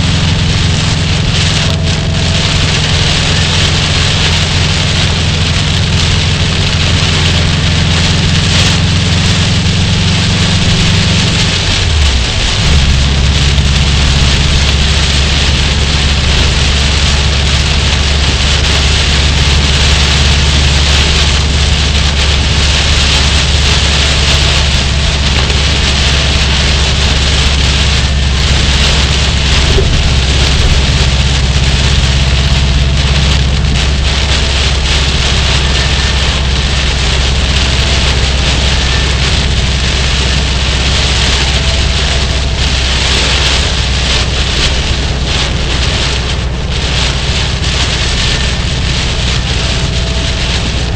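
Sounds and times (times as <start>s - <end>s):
car engine and road noise: 0.0s - 50.9s
heavy rain on car: 0.0s - 50.9s.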